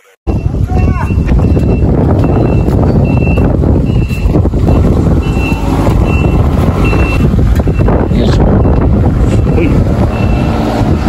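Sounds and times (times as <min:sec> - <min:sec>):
wind buffeting microphone: 0:00.3 - 0:11.0.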